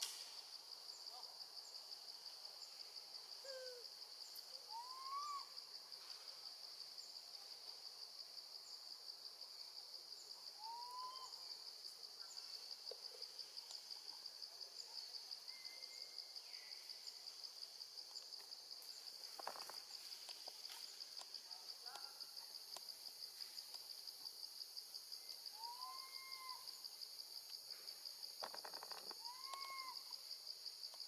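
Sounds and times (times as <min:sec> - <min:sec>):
high-pitched pulsing insect chorus: 0:00.0 - 0:31.0.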